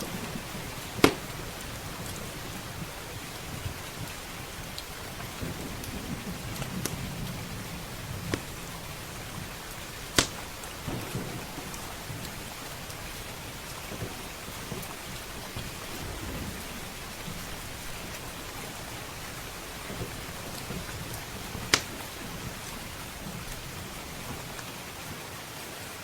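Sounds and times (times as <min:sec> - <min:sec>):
low thunder rumble: 0:00.0 - 0:25.0
wood fire crackling: 0:00.0 - 0:25.1
steady rain: 0:00.0 - 0:26.0.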